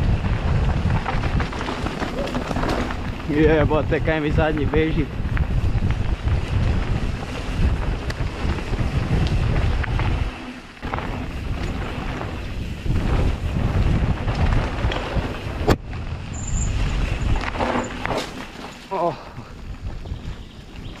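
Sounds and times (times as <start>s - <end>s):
bike rattles and clicks: 0.0s - 21.0s
tyres rolling over dirt: 0.0s - 21.0s
wind rumbling on microphone: 0.0s - 21.0s.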